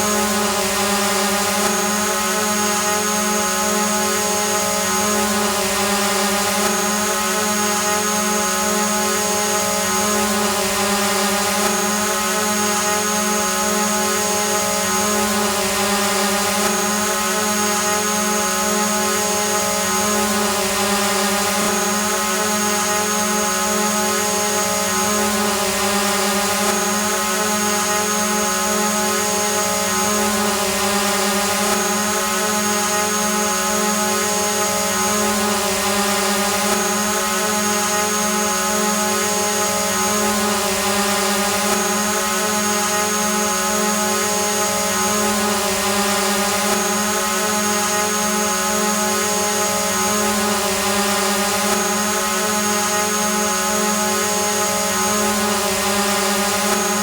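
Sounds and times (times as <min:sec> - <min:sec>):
drone propeller hum: 0:00.0 - 0:57.0.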